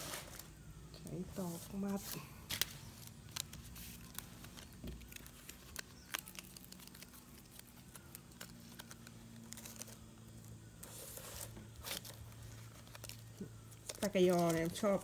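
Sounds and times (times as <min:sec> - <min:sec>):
banana leaves crinkling: 0:00.0 - 0:15.0
faint low hum: 0:00.0 - 0:15.0.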